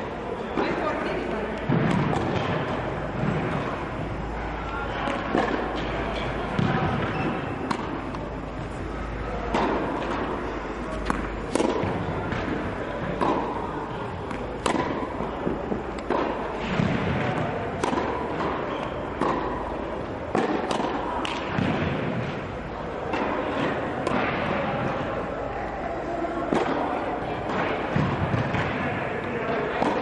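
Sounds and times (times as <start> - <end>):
tennis balls bouncing on court: 0.5 - 25.0, 26.5 - 30.0
racket hitting tennis balls: 0.5 - 25.3, 26.4 - 30.0.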